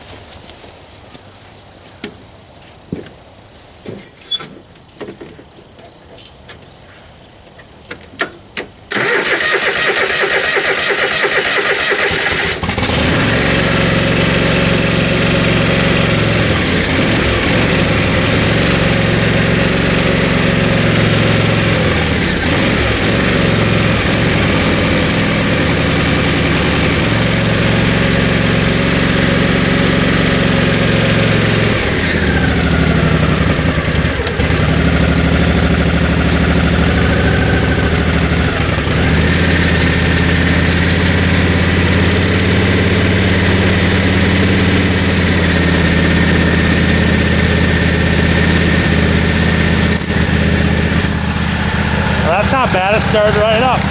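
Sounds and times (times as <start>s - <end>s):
lawn mower engine starting: 8.9s - 53.9s.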